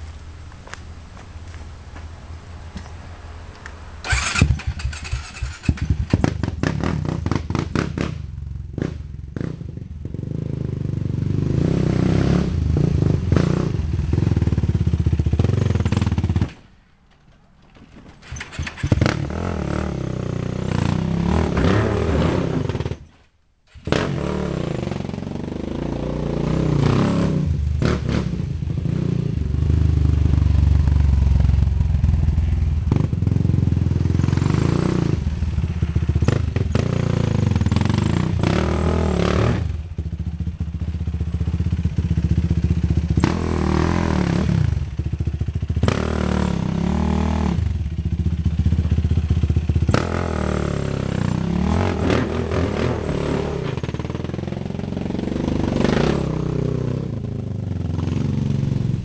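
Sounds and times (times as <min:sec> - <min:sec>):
quad engine revving: 0:04.0 - 0:16.6, 0:18.3 - 0:23.0, 0:23.7 - 0:59.0.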